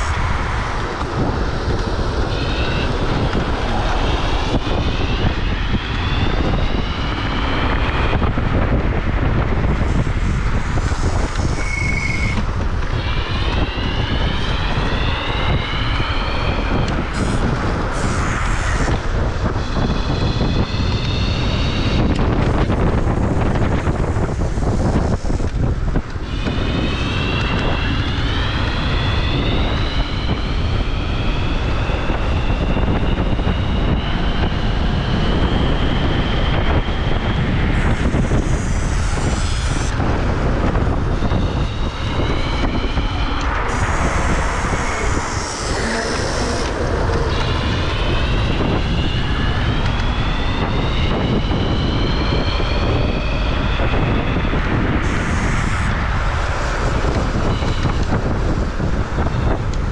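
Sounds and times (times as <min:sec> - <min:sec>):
electric scooter motor whining: 0:00.0 - 0:59.9
wind buffeting microphone: 0:00.0 - 0:59.9.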